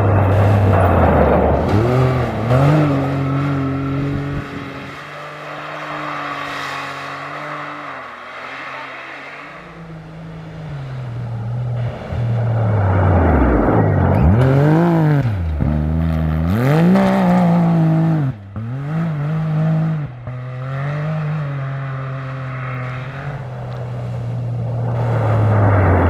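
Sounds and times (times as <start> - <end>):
vehicle engine accelerating hard: 0.0 - 26.0.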